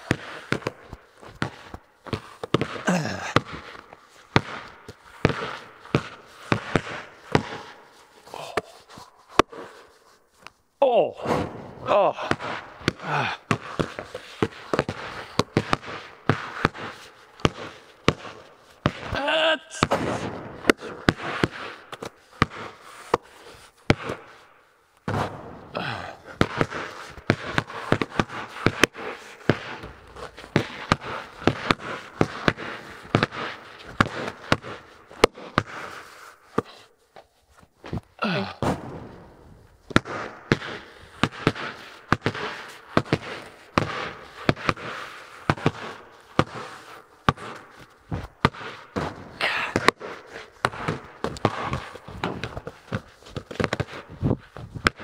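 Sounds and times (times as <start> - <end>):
basketballs bouncing on concrete: 0.0 - 8.8, 9.4 - 9.7, 11.2 - 24.4, 25.0 - 36.8, 37.8 - 39.2, 39.8 - 55.0.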